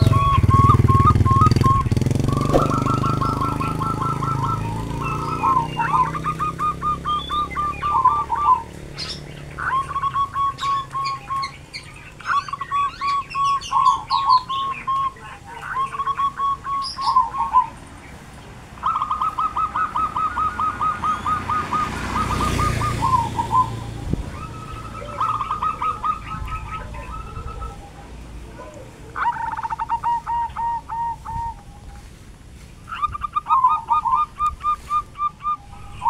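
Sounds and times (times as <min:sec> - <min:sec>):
birds singing: 0:00.0 - 0:36.0
higher bird chirps: 0:00.0 - 0:36.0
motorbike passing: 0:00.0 - 0:36.0.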